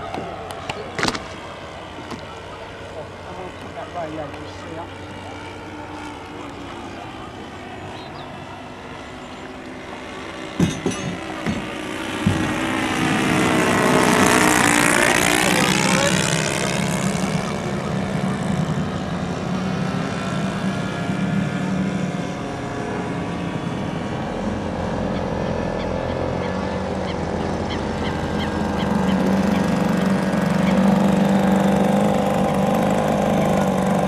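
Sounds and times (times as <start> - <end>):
model seaplane buzzing past: 0.0 - 34.0.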